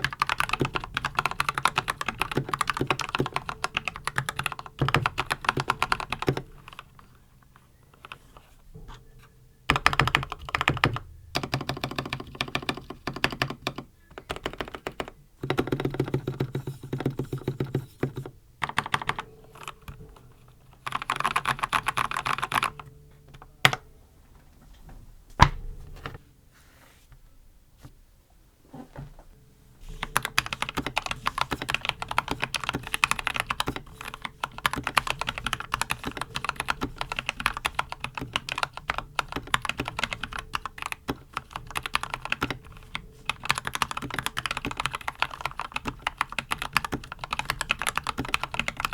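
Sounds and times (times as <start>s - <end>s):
typing on mechanical keyboard: 0.0s - 8.5s, 9.7s - 23.8s, 30.0s - 48.9s.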